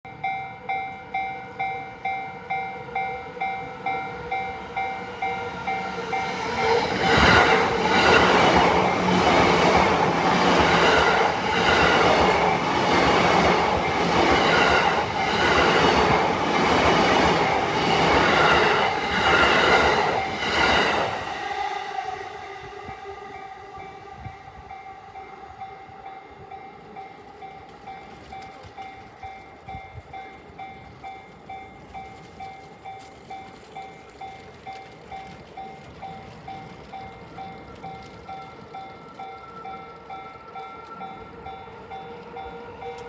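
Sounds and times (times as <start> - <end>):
level-crossing warning bell: 0.1 - 43.0.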